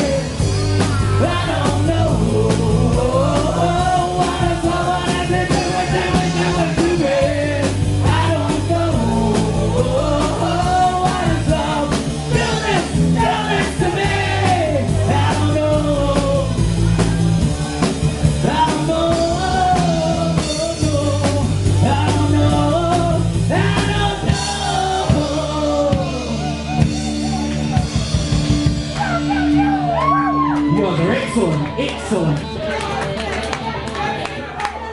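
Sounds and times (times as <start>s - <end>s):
bending lead guitar melody: 0.0s - 34.9s
rock and roll band playing: 0.0s - 34.9s.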